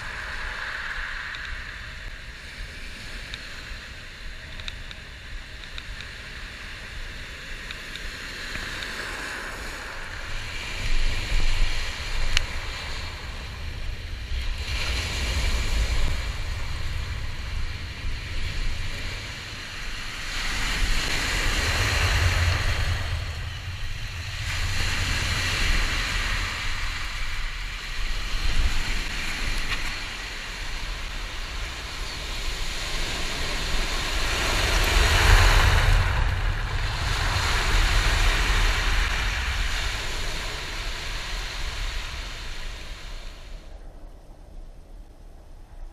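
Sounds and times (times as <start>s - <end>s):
surf breaking on shingle beach: 0.0s - 4.4s, 6.4s - 43.6s
wind rumbling on microphone: 0.0s - 45.9s.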